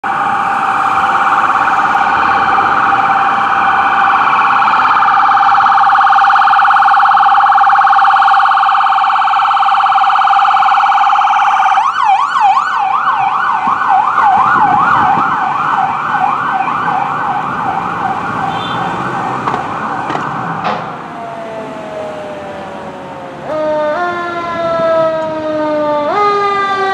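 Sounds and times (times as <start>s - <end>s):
electronic siren wailing and yelping: 0.1s - 26.9s.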